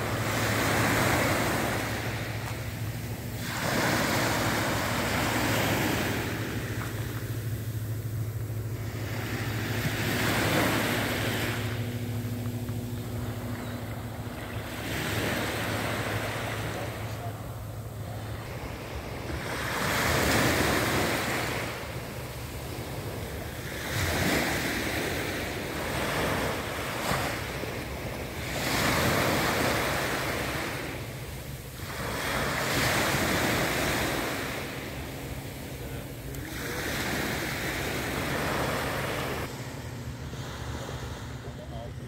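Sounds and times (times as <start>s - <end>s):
waves washing onto shore: 0.0s - 41.5s.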